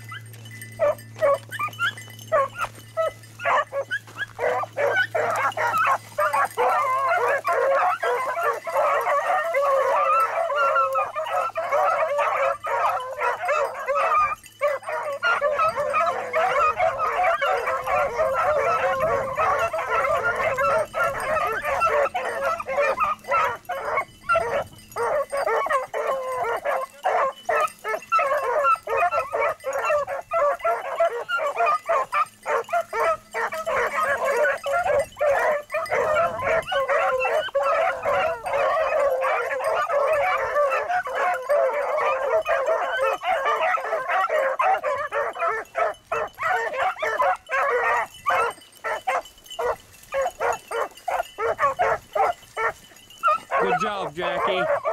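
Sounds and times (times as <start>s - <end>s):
pack of dogs baying: 0.0s - 54.9s.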